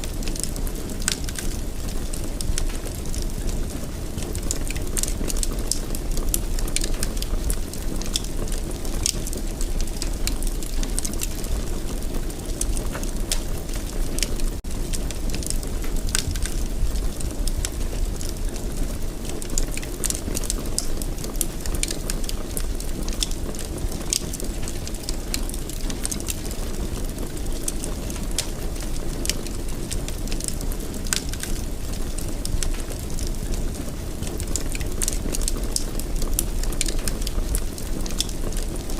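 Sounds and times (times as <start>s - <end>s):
fire crackling and popping: 0.0s - 38.9s
low fire roar: 0.0s - 38.9s.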